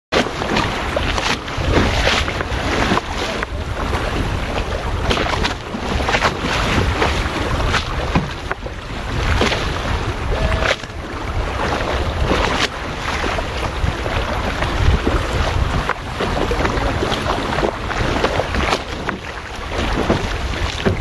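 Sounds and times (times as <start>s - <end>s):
water rushing along a hull: 0.1s - 21.0s
water splashes: 0.2s - 21.0s
wind buffeting microphone: 0.2s - 21.0s.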